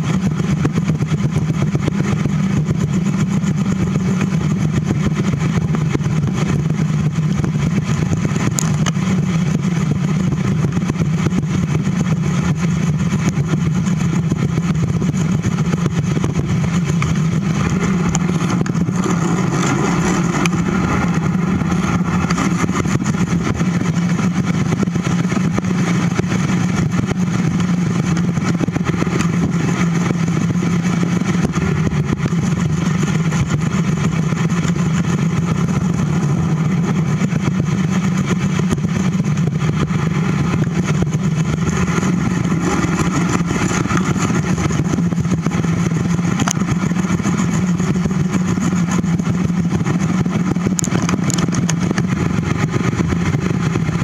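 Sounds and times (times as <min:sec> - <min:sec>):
wind over microphone: 0:00.0 - 0:54.0.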